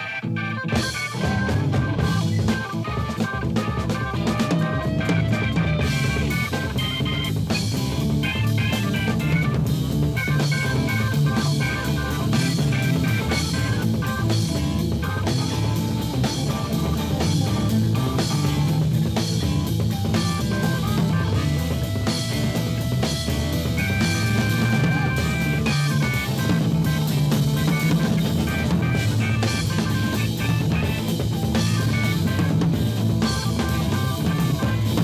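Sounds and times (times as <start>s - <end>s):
drum kit: 0.0s - 35.0s
electric guitar lines: 0.0s - 35.0s.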